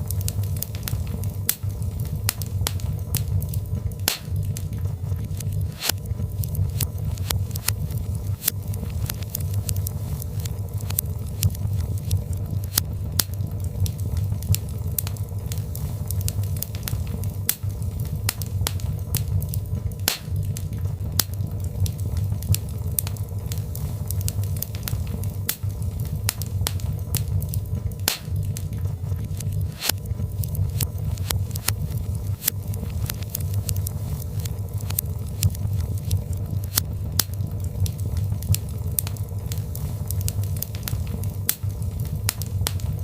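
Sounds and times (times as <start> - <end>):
fire crackling and popping: 0.0 - 43.0
low rumble of flames: 0.0 - 43.0.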